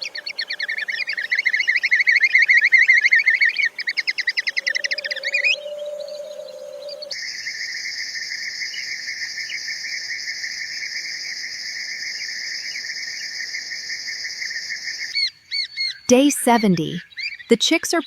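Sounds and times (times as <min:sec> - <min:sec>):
insects chirring: 0:00.0 - 0:15.2.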